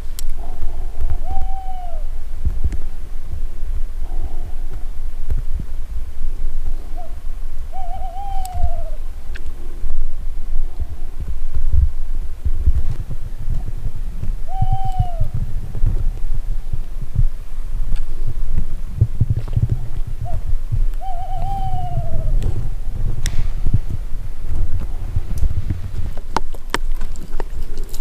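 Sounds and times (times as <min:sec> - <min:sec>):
low uneven rumble with thuds: 0:00.0 - 0:28.0.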